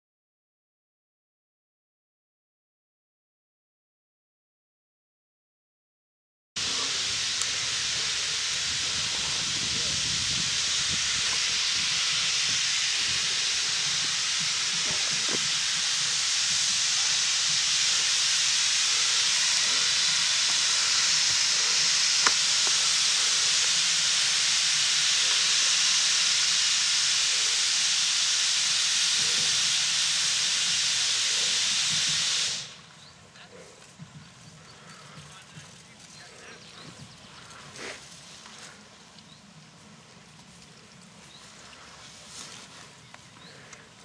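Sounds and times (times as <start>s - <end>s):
steam locomotive blowing off steam: 6.6s - 44.0s.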